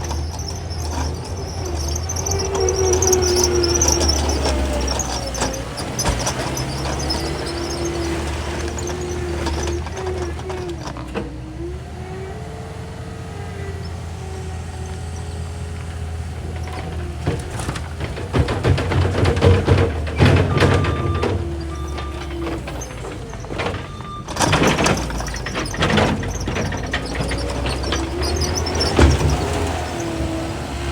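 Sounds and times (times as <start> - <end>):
metal clanks and knocks: 0.0 - 11.4, 15.9 - 30.4
skid steer whining: 0.0 - 30.9.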